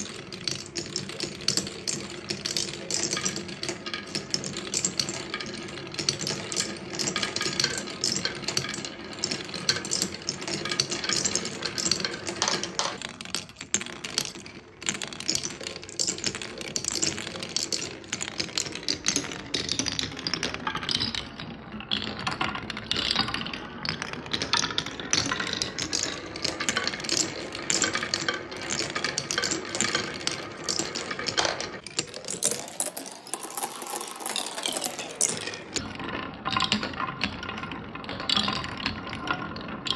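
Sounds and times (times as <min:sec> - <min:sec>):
marbles clacking on wooden tracks: 0:00.0 - 0:39.9.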